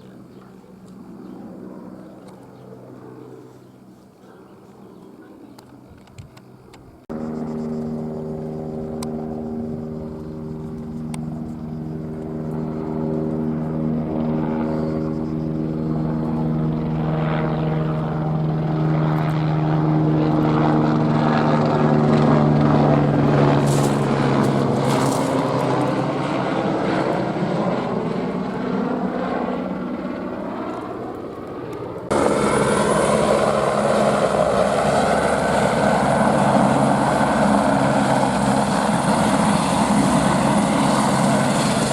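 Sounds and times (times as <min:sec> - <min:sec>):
helicopter flying: 0:00.0 - 0:41.9.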